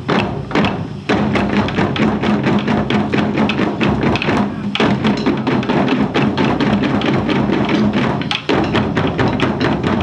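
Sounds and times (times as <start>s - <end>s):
taiko drums playing fast rhythm: 0.0s - 10.0s.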